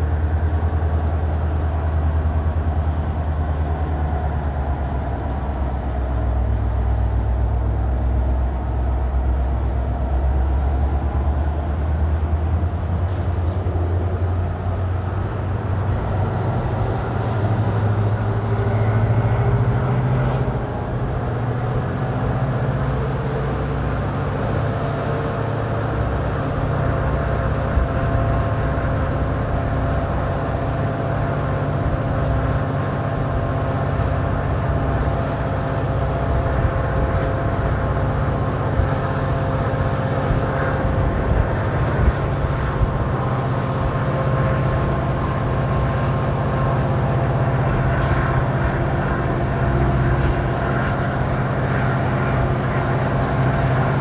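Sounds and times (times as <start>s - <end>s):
low wind noise: 0.0s - 54.0s
train wheels rumbling on rails: 0.0s - 54.0s.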